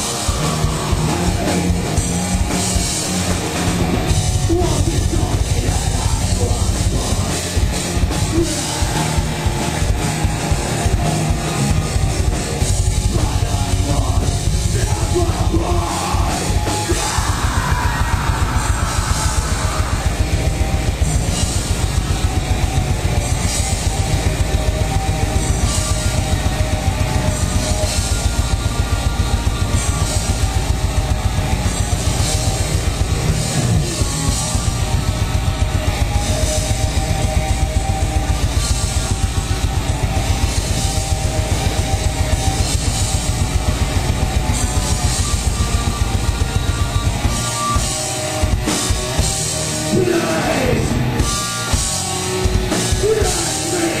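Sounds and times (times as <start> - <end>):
distorted guitars: 0.0 - 54.0
fast drumming: 0.0 - 54.0.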